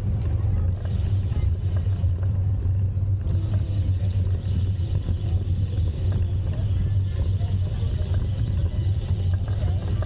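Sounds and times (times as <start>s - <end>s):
faint road noise: 0.0s - 10.0s
wind buffeting microphone: 0.0s - 10.0s.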